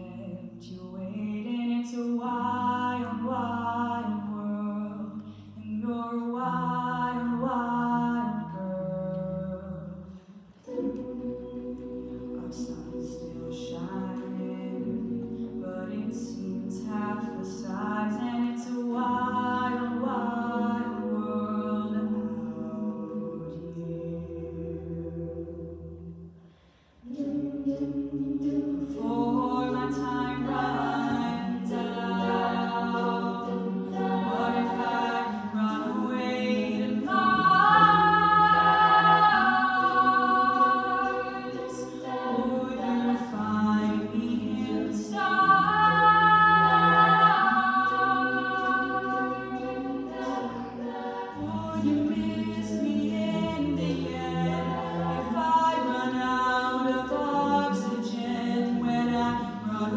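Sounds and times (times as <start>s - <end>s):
a cappella group singing harmony: 0.0s - 59.9s.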